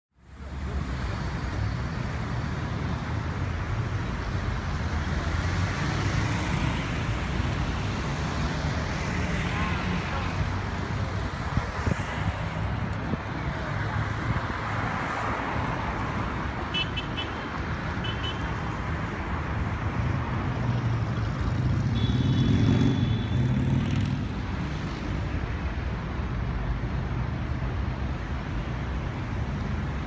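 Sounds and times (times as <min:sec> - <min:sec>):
rumble of passing cars: 0:00.2 - 0:30.0.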